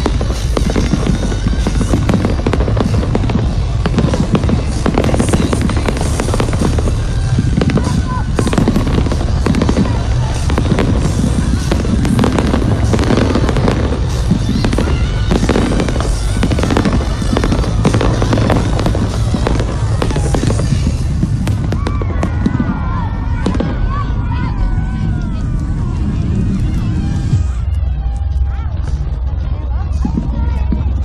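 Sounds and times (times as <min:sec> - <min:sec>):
fireworks bangs and crackling: 0:00.0 - 0:27.7, 0:28.8 - 0:31.0
low rumble: 0:00.0 - 0:31.0.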